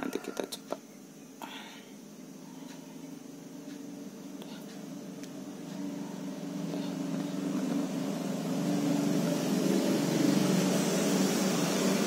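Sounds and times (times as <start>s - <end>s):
engine-like hum: 0.0s - 12.0s.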